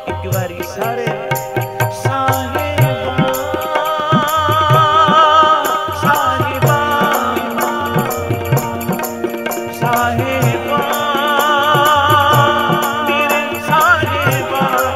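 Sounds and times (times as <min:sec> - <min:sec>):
tabla beat: 0:00.0 - 0:14.9.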